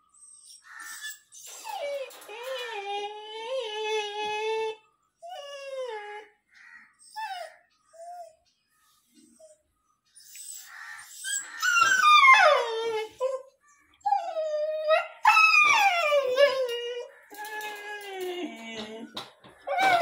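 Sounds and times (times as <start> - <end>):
puppy whining howls: 0.9 - 6.3, 7.0 - 8.4, 10.4 - 20.0.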